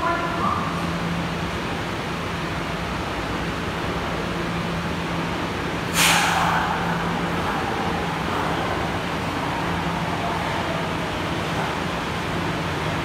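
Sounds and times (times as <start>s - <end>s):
falling tone of slowing train: 0.0s - 13.0s
subway train approaching: 0.0s - 13.0s.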